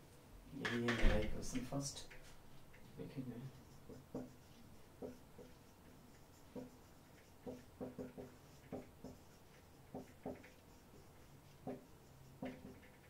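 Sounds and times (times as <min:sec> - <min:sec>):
marker squeaking on whiteboard: 0:02.0 - 0:13.0.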